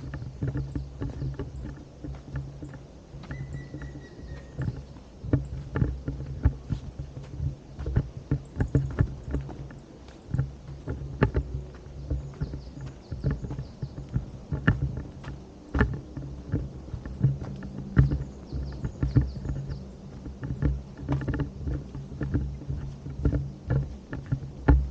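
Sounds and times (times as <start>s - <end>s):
footsteps on forest path: 0.0s - 24.9s
low rumble on microphone: 0.0s - 24.9s.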